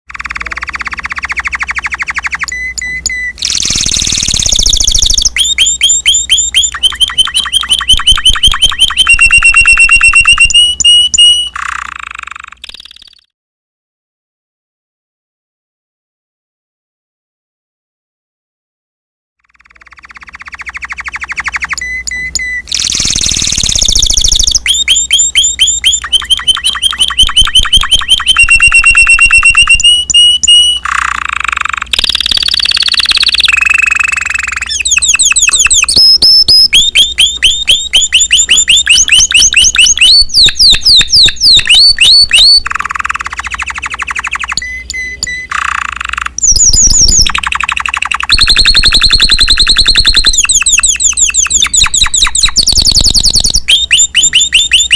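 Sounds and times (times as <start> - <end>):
canary singing trills: 0.1 - 13.3, 19.4 - 54.9.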